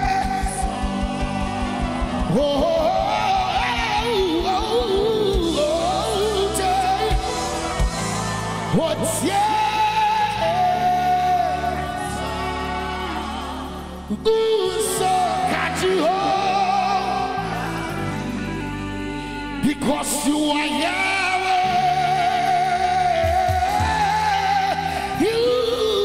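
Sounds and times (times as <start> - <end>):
keyboards and band backing: 0.0 - 26.0
vocalists singing long notes: 0.0 - 26.0.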